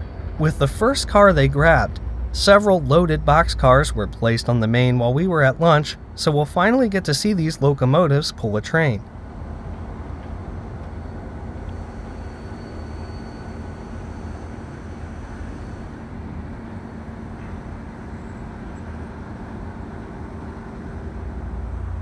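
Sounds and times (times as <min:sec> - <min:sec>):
diesel locomotives droning: 0:00.0 - 0:22.0.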